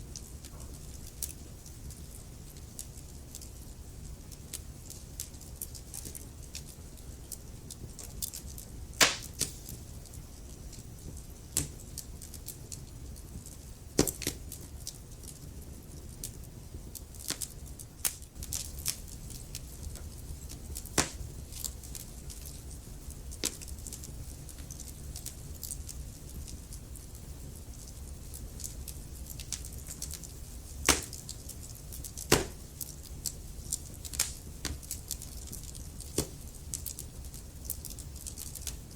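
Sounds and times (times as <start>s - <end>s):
low steady rumble: 0.0s - 38.9s
wood fire crackling: 0.0s - 38.9s.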